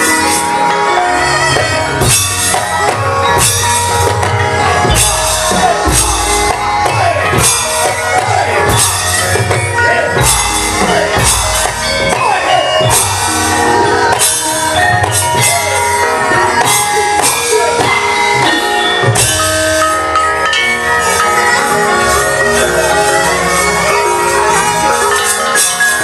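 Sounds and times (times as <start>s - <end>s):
gamelan ensemble playing: 0.0s - 26.0s.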